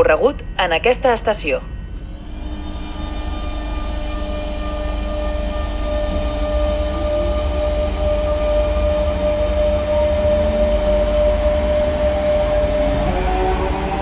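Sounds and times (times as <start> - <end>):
electric train humming: 0.0 - 14.0
low rumble of train cars: 0.0 - 14.0.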